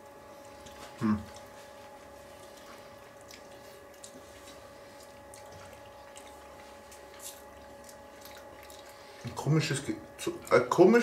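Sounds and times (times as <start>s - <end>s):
steady hum: 0.0s - 11.0s
wet mouth sounds eating: 0.4s - 9.4s.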